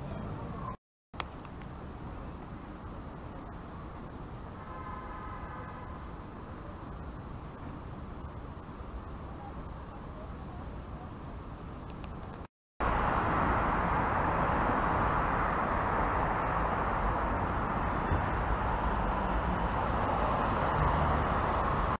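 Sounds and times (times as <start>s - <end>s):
cars passing on street: 0.0s - 22.0s.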